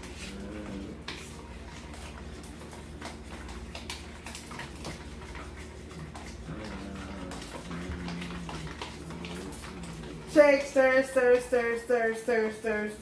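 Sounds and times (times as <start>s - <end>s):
utensils scraping plastic bowls: 0.0s - 11.9s
low steady hum: 0.0s - 13.0s.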